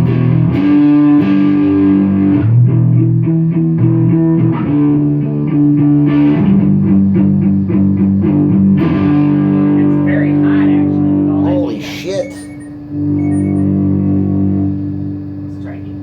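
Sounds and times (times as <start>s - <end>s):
overdriven electric guitar: 0.0s - 16.0s.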